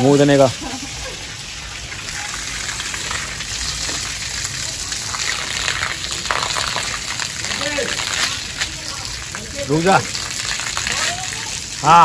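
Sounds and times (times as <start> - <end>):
hose water splashing on concrete: 0.0 - 12.0.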